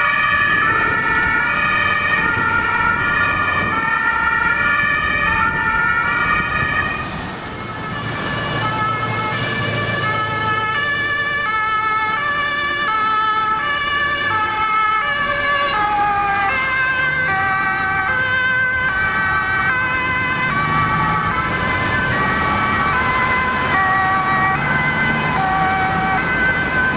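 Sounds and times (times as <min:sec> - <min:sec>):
traffic noise: 0:00.0 - 0:26.9
two-tone emergency sirens: 0:00.0 - 0:26.9.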